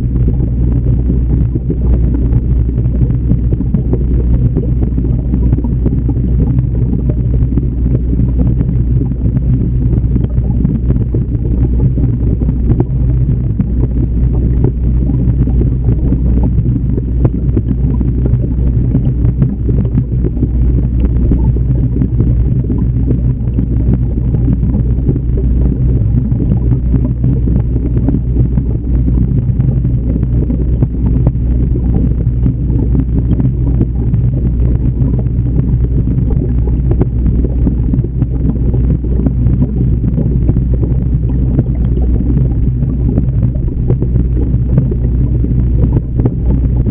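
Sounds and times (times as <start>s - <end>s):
low hum: 0.0s - 46.9s
rushing water underwater: 0.0s - 46.9s.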